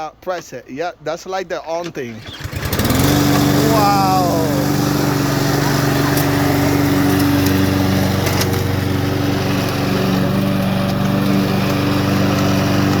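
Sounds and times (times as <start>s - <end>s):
lawnmower engine running: 2.0s - 13.0s.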